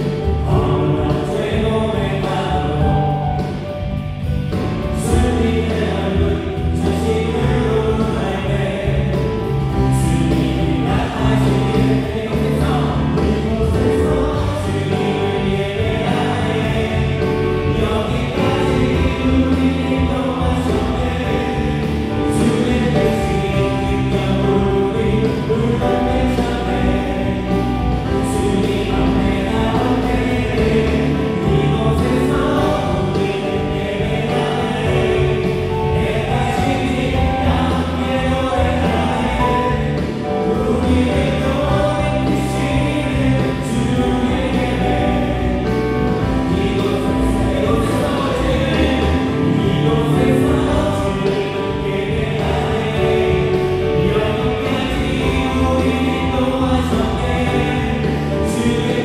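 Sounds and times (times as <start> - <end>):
bass guitar: 0.0 - 59.0
drums: 0.0 - 59.0
keyboards: 0.0 - 59.0
voices singing: 0.0 - 59.0.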